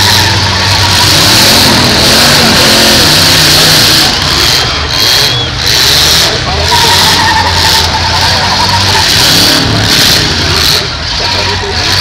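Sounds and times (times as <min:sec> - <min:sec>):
car engines revving loudly: 0:00.0 - 0:12.0.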